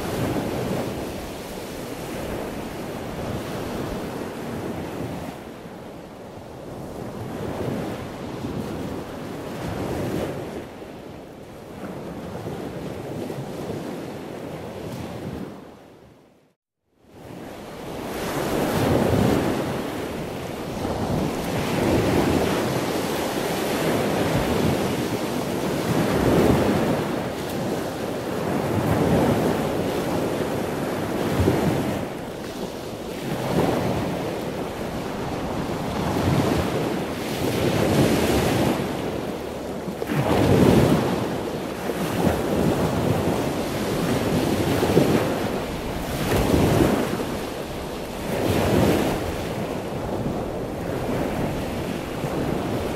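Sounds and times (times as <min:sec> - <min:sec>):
wind buffeting microphone: 0:00.0 - 0:16.1, 0:17.2 - 0:52.9.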